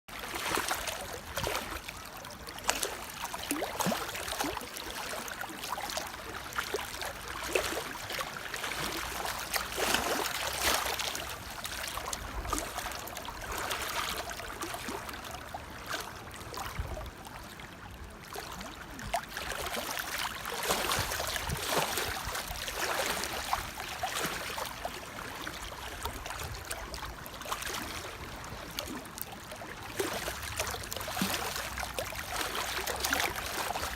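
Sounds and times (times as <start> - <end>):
water trickling and splashing: 0.1 - 33.9.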